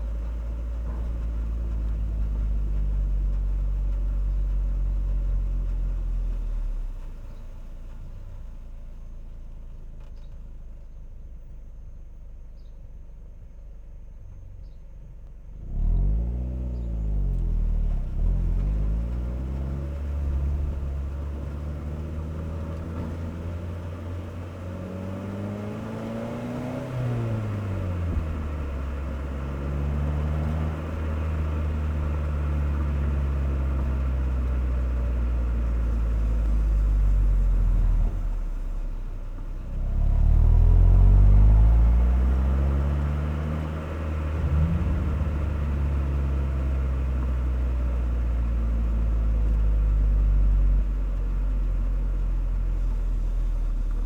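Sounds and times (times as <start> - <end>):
car exhaust rumble: 0.0 - 54.0.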